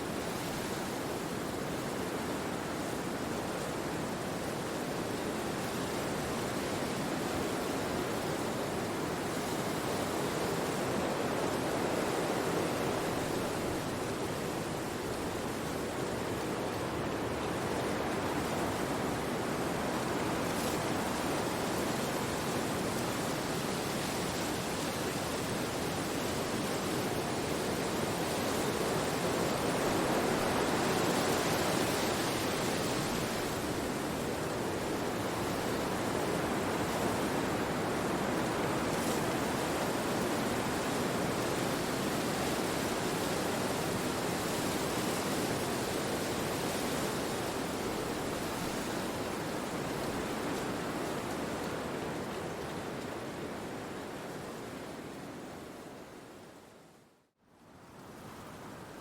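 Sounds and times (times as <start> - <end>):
wind blowing through trees: 0.0 - 59.0.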